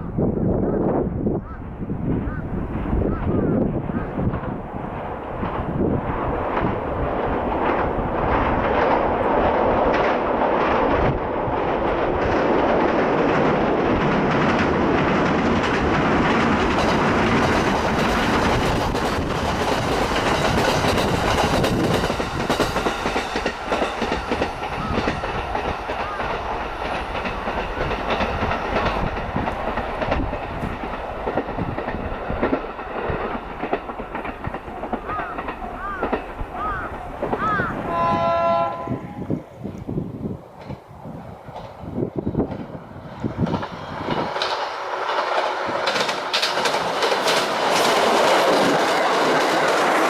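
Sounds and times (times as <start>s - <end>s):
electric train passing: 0.0s - 50.0s
wind noise on microphone: 0.0s - 50.0s
train wheels clicking on rail joints: 0.8s - 38.9s, 39.6s - 50.0s.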